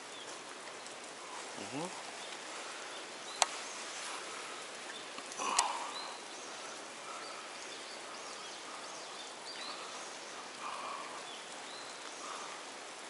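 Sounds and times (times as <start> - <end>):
faint bird chirps: 0.0 - 12.8
creek water running: 0.0 - 13.0.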